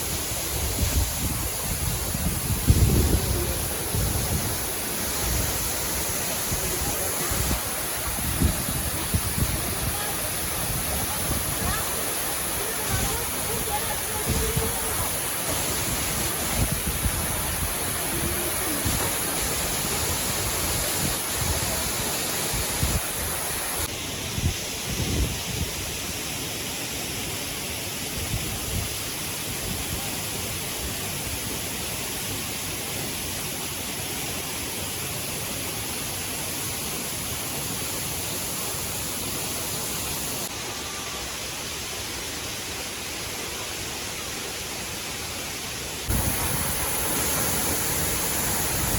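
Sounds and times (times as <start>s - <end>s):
waterfall rushing: 0.0s - 24.8s, 25.7s - 48.9s.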